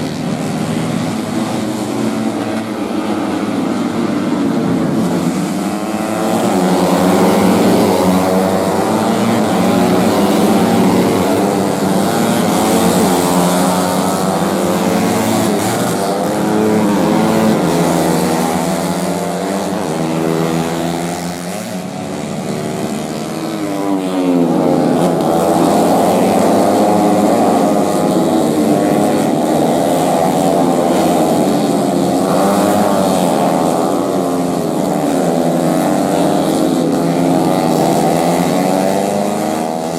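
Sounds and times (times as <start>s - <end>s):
racing motorcycles passing at high revs: 0.0s - 39.9s.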